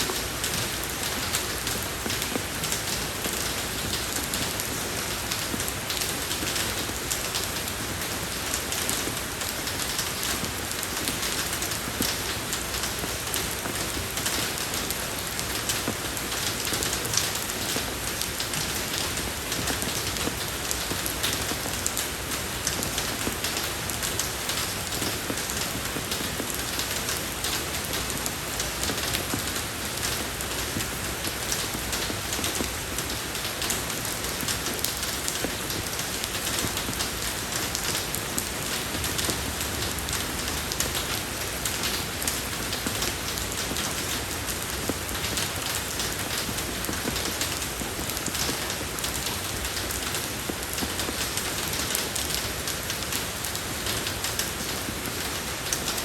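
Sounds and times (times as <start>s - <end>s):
rain falling on a road: 0.0s - 56.0s.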